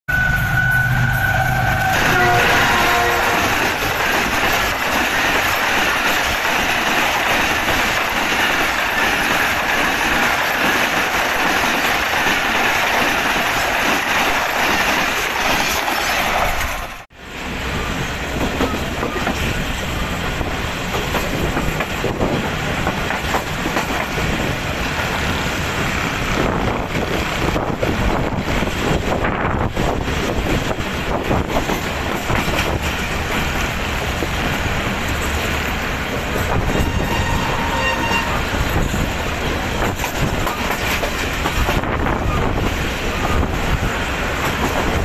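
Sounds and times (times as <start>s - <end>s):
train rattle inside coach: 0.1s - 45.0s
train wheels clattering: 2.0s - 17.0s, 20.3s - 45.0s.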